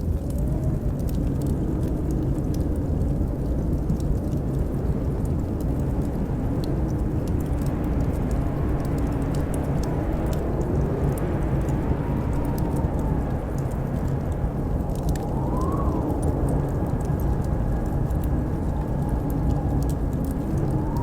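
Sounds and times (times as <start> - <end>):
wind howling: 0.0 - 21.0
wood fire crackling: 0.0 - 21.0.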